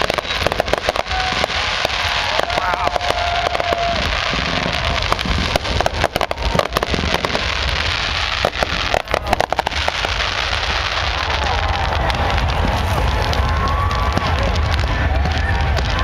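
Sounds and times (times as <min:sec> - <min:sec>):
fireworks crackling bursts: 0:00.0 - 0:16.0
sharp popping fireworks: 0:00.0 - 0:16.0.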